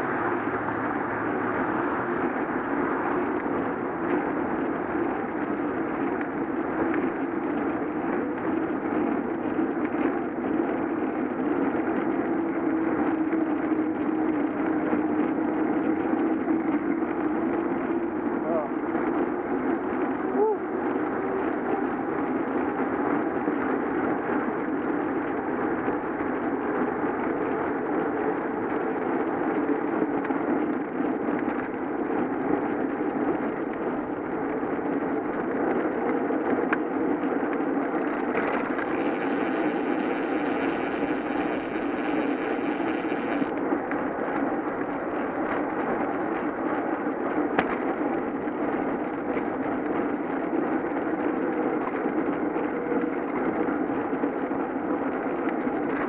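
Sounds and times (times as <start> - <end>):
bicycle tyre noise: 0.0 - 56.0.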